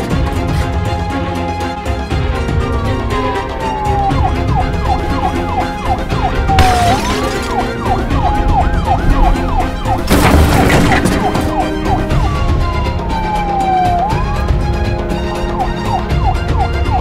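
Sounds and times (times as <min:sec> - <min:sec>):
background music: 0:00.0 - 0:17.0
police siren yelping: 0:02.9 - 0:17.0.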